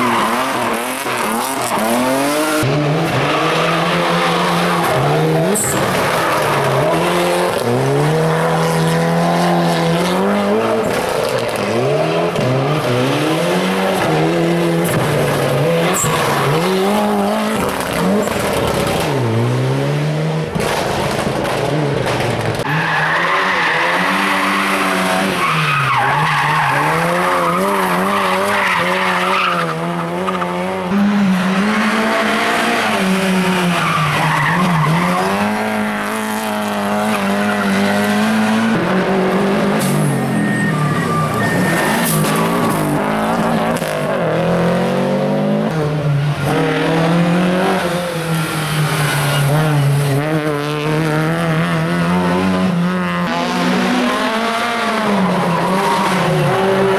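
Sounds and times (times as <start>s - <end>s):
race car engine at full throttle: 0.0s - 56.9s.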